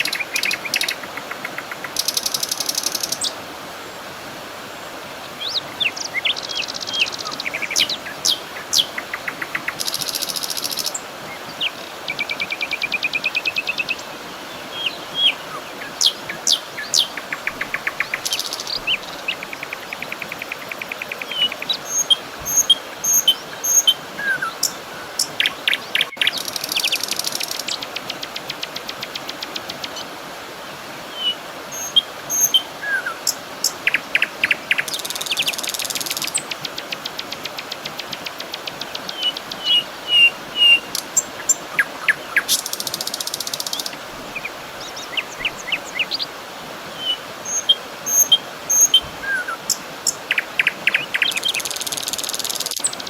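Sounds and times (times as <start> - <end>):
songbirds chirping and trilling: 0.0 - 4.0, 4.8 - 30.1, 31.2 - 53.0
steady background hiss: 0.0 - 53.0.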